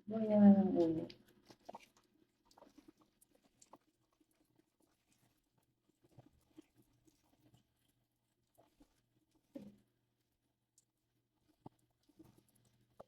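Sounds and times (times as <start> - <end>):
faint soft clicks and taps: 0.9 - 13.0.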